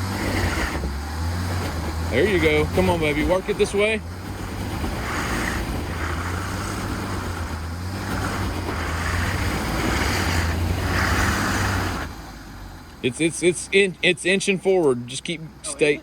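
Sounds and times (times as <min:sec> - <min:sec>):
truck engine pulling under load: 0:00.0 - 0:16.0.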